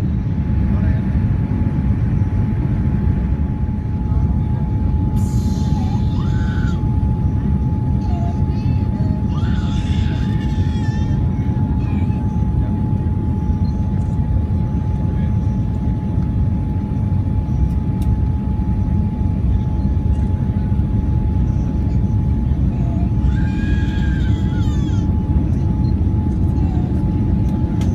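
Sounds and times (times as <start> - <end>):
aircraft engine and airflow noise: 0.0 - 27.9.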